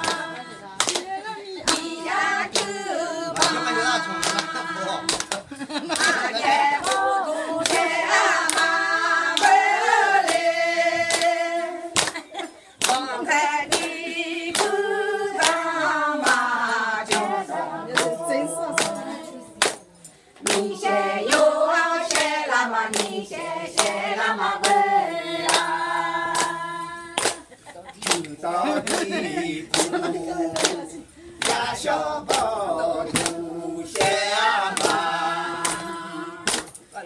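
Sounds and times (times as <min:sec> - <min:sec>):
hand claps: 0:00.0 - 0:08.7, 0:09.3 - 0:09.6, 0:11.1 - 0:11.4, 0:12.0 - 0:14.8, 0:15.4 - 0:37.0
group singing folk song: 0:00.0 - 0:37.0.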